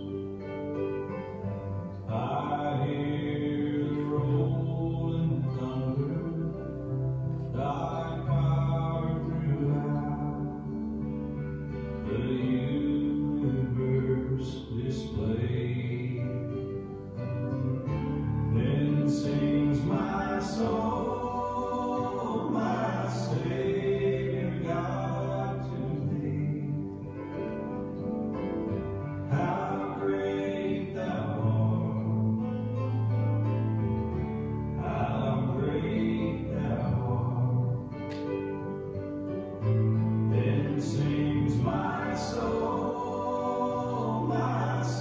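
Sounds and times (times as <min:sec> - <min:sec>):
instrumental accompaniment: 0:00.0 - 0:45.0
voices singing a hymn: 0:01.9 - 0:32.8, 0:34.0 - 0:39.0, 0:39.6 - 0:45.0.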